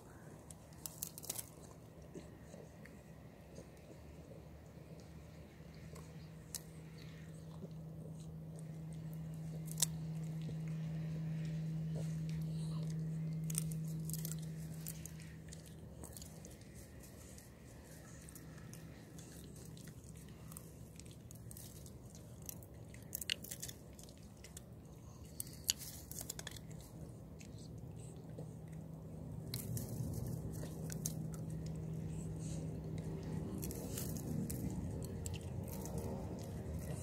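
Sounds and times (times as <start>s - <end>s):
dog chewing a stick: 0.0s - 37.0s
low steady hum: 0.0s - 37.0s.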